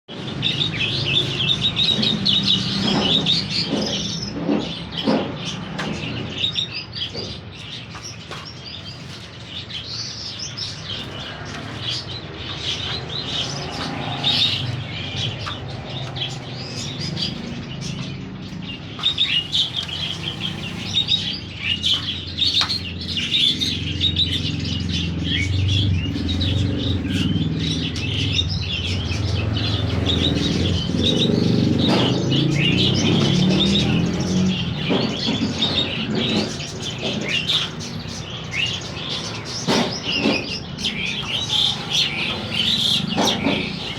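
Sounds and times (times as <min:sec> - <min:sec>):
small birds chirping and twittering: 0:00.1 - 0:43.9.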